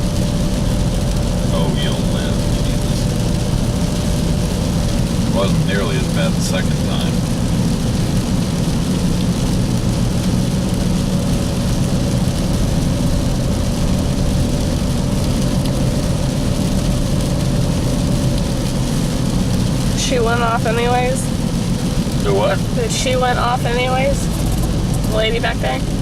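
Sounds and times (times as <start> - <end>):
low engine hum: 0.0 - 26.0
road rushing noise: 0.0 - 26.0.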